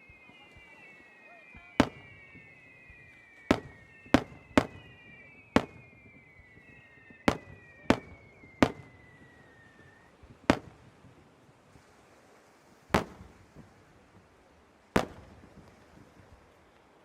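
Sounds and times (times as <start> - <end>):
fireworks bangs: 0.0 - 11.9, 12.8 - 14.3, 14.9 - 16.4
whistling fireworks: 0.0 - 17.0.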